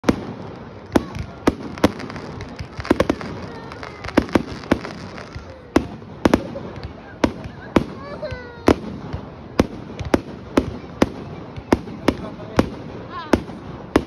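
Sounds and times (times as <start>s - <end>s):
firework bangs: 0.0s - 14.0s
firework crackle: 0.0s - 14.0s.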